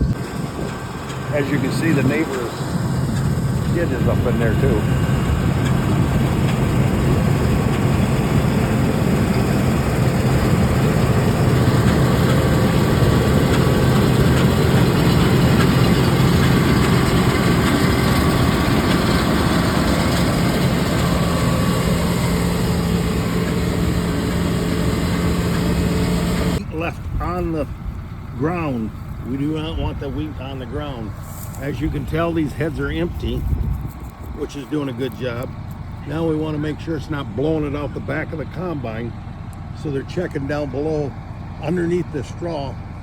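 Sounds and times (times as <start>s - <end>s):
combine harvester engine drone: 0.0s - 43.0s
threshing machinery noise: 0.0s - 43.0s.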